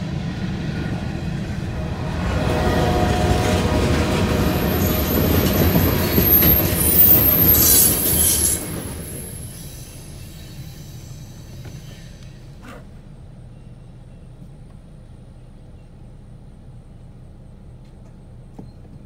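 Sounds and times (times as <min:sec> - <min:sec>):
freight train rolling: 0:00.0 - 0:19.0.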